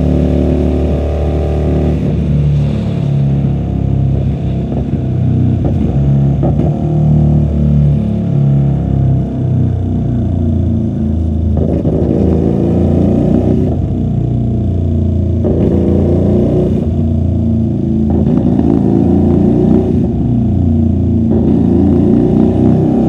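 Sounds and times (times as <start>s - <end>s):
muffled motorcycle engine revving: 0.0s - 23.0s.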